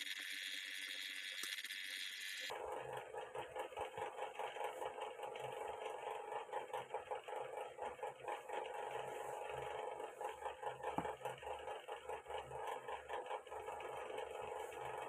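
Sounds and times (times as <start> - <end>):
mechanical hum with pulsing flutter: 0.0 - 15.0.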